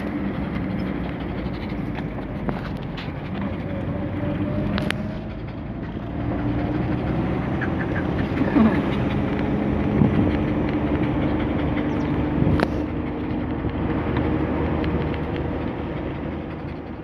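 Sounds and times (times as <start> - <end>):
wind rushing through car window: 0.0 - 16.9
low engine hum: 0.0 - 17.0
road noise: 0.0 - 17.0.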